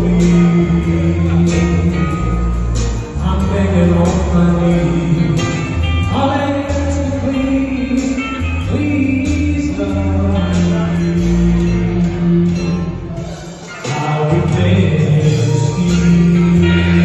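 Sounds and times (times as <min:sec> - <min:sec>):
bass line: 0:00.0 - 0:17.0
guitar: 0:00.0 - 0:17.0
person singing: 0:00.0 - 0:17.0.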